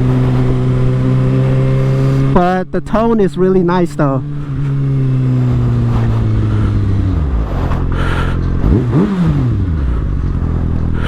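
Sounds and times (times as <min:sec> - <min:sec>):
motorcycle engine revving: 0:00.0 - 0:03.1, 0:03.7 - 0:11.0.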